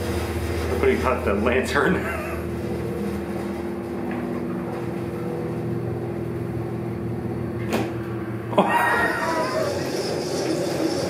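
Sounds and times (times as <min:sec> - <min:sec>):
elevator machine hum: 0:00.0 - 0:11.0.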